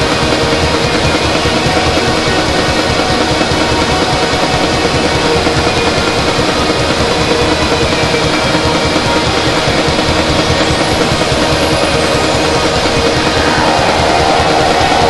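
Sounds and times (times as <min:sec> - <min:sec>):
loud dense music: 0:00.0 - 0:15.0.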